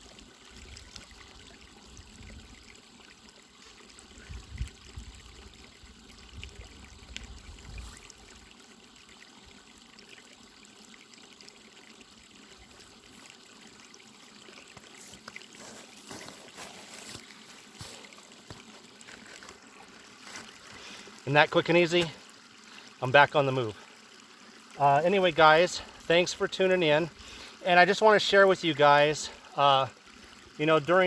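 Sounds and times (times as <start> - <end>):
creek trickling over rocks: 0.0 - 31.0.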